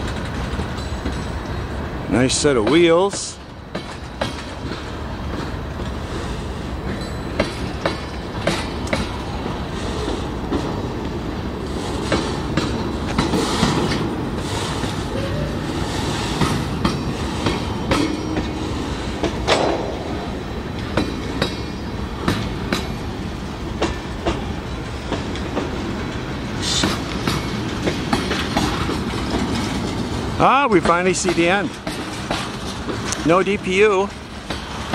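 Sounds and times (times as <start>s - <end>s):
freight cars rumbling: 0.0s - 34.9s
wheels clacking over rail joints: 0.0s - 34.9s.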